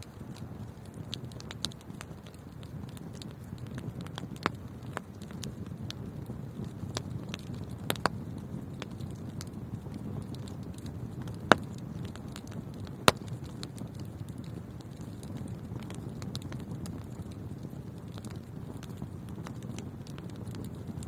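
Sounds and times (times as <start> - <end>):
fire crackles and pops: 0.0 - 21.0.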